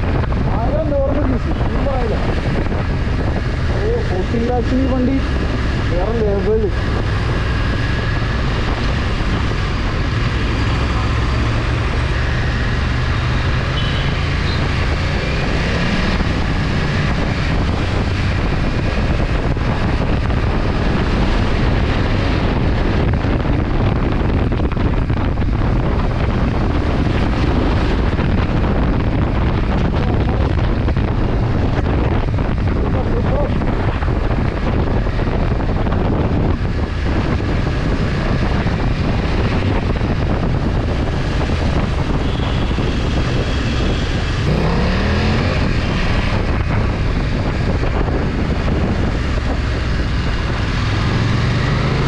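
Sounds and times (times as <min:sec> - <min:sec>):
motorcycle engine running: 0:00.0 - 0:52.0
wind rushing over microphone: 0:00.0 - 0:52.0.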